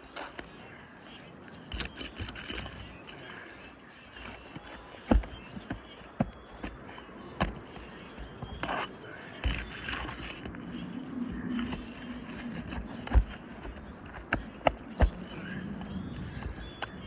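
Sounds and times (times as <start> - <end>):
shingles clicking and scraping: 1.7 - 17.0.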